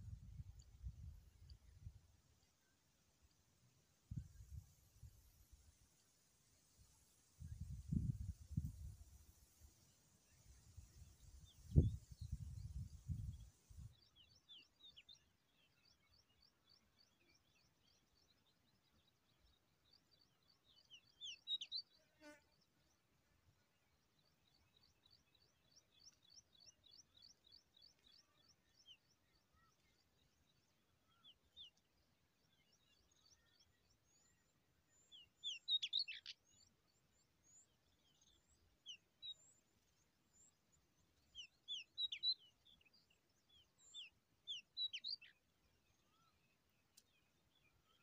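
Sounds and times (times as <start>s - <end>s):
small birds chirping and trilling: 7.4s - 23.0s, 24.0s - 48.0s.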